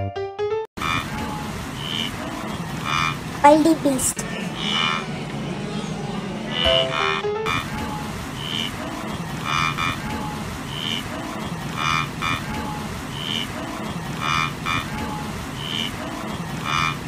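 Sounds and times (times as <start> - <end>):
wildebeest calls: 0.8 - 3.3, 4.2 - 5.2, 6.5 - 17.0.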